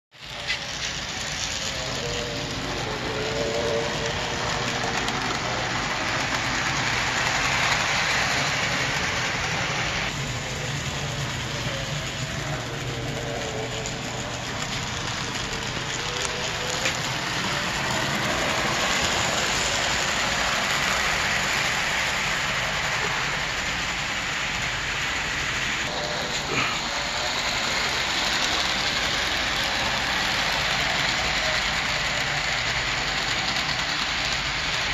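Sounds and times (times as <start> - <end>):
model train wheels rattling on rails: 0.1 - 34.9.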